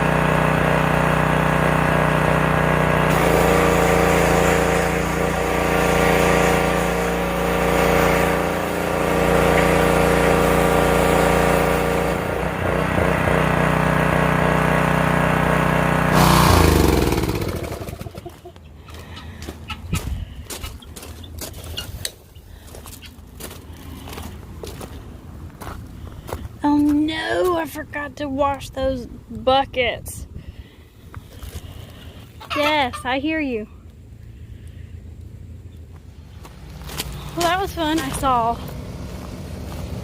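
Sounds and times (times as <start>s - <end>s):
small gas engine running: 0.0s - 26.8s, 33.8s - 40.0s.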